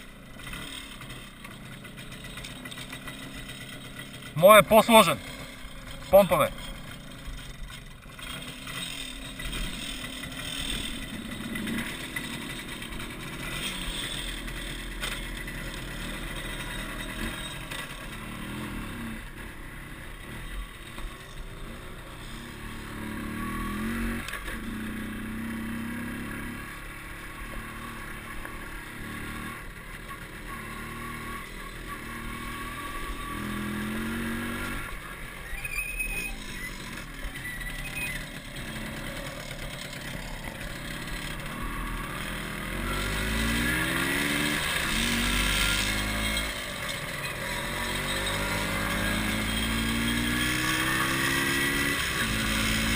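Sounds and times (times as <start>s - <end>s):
two-stroke motorcycle engine revving: 0.0s - 52.9s.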